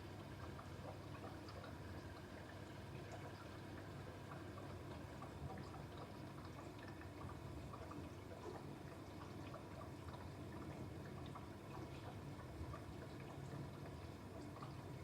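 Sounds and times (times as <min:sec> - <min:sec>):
dishwasher low hum: 0:00.0 - 0:15.0
small ticks and drips: 0:00.0 - 0:15.0.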